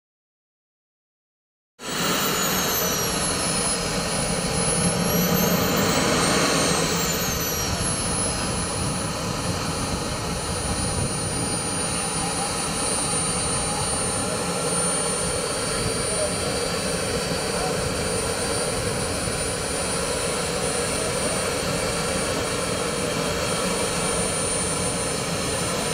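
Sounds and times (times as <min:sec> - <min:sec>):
jet turbine engine whining: 0:01.8 - 0:25.9.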